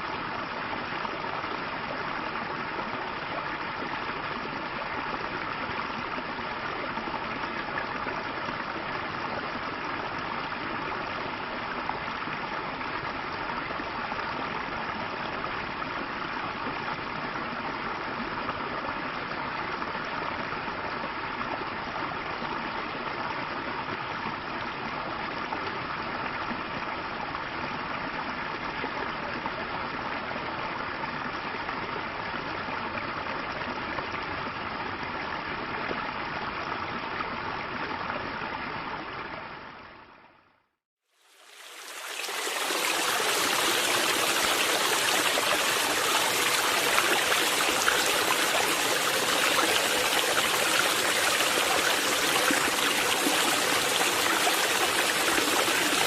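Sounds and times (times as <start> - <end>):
stream flowing over rocks: 0.0 - 39.8, 41.1 - 56.0.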